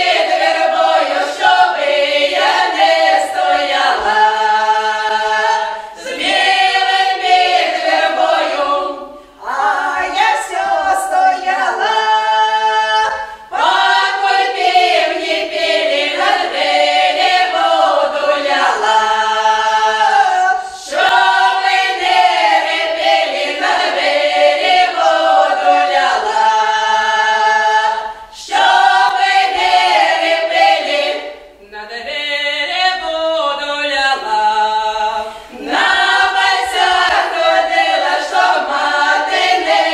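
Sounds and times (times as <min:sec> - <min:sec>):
women's choir singing a cappella: 0:00.0 - 0:39.9.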